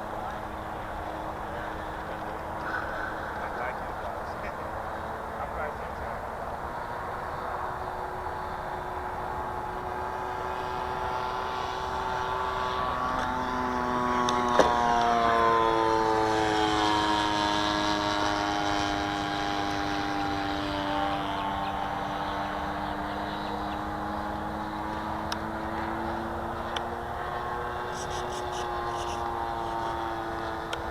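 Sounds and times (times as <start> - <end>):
model plane motor whining: 0.0 - 30.9.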